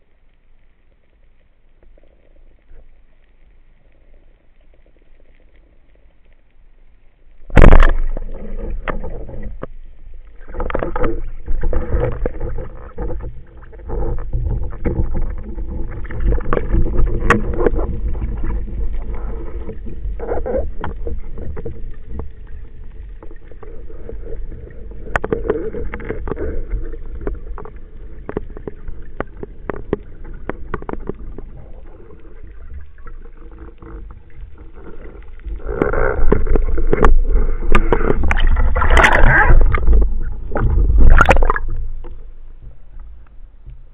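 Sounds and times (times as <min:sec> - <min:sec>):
water rushing underwater: 0:07.3 - 0:43.9.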